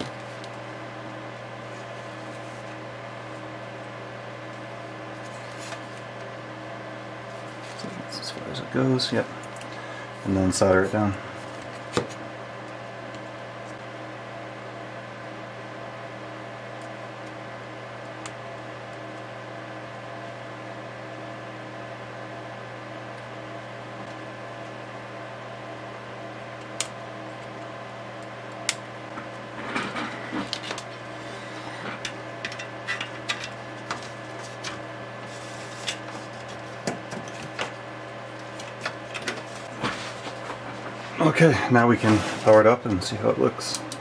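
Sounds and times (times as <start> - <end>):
steady electrical hum: 0.0 - 44.0.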